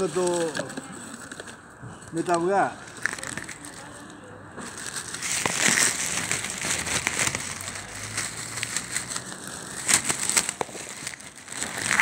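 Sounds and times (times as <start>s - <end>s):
dried herbs crackling and rustling: 0.0s - 12.0s
plastic bag crinkling: 0.0s - 12.0s.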